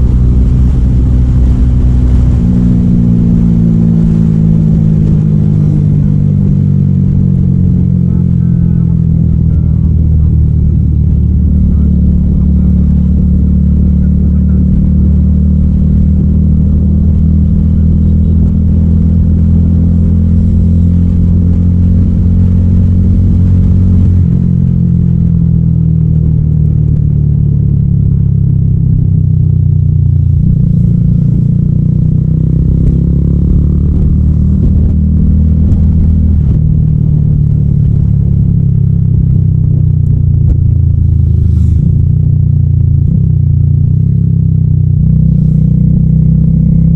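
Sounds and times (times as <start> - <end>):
motorcycle exhaust note: 0.0 - 46.9.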